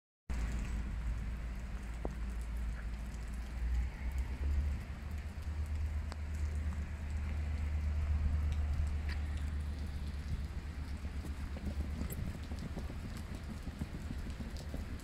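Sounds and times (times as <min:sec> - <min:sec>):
rain on stone paving: 0:00.3 - 0:15.0
steady low rumble: 0:00.3 - 0:15.0.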